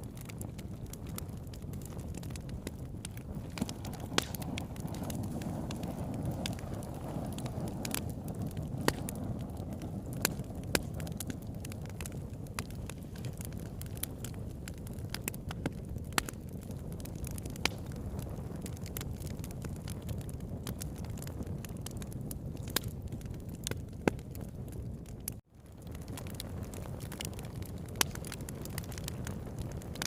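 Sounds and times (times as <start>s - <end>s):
campfire crackling and popping: 0.0s - 30.0s
low rush of flame: 0.0s - 30.0s
wind on microphone: 0.0s - 30.0s.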